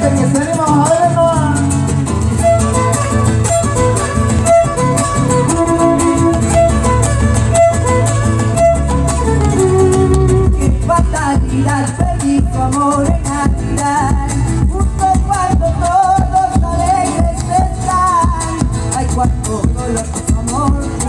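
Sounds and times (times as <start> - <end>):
acoustic guitars: 0.0 - 21.0
bass drum beat: 0.0 - 21.0
held melody line: 0.0 - 21.0.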